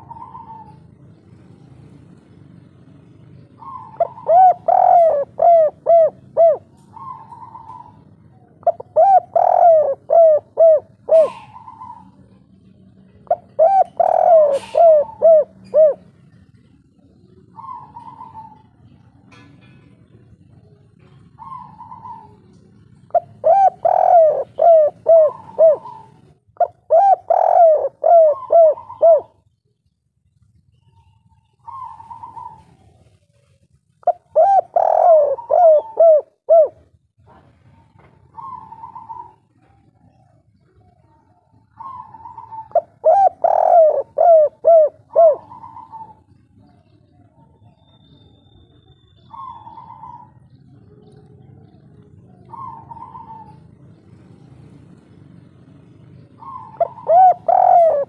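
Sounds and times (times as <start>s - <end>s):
dove cooing: 0.0s - 29.9s, 30.7s - 58.0s.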